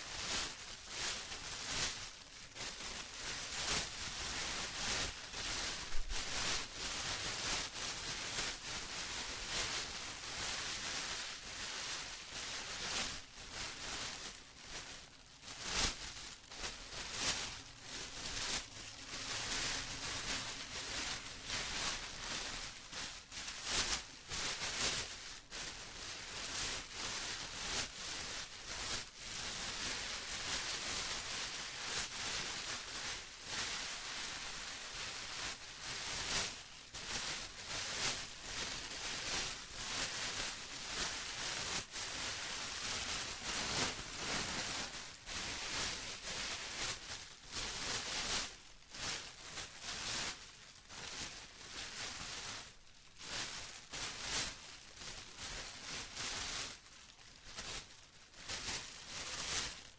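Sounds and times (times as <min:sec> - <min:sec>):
plastic crinkling: 0:00.1 - 0:59.9.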